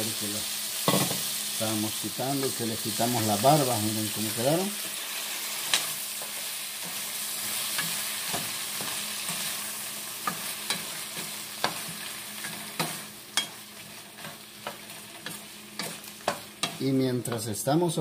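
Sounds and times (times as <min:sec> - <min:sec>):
food sizzling in a skillet: 0:00.0 - 0:18.0.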